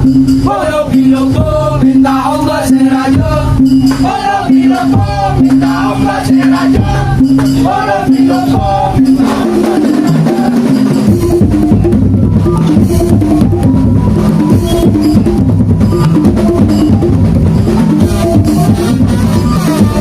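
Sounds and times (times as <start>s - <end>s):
dense drumming: 0.0s - 20.0s
wood-block strokes: 0.0s - 20.0s.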